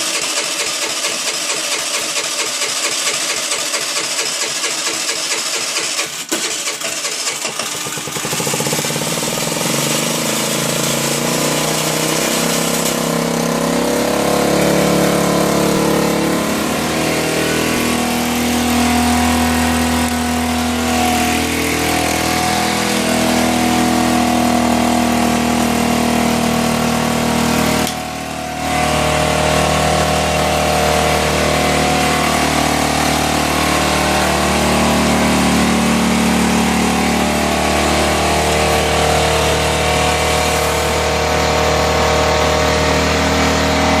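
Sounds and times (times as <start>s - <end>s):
scooter engine running: 0.0s - 44.0s.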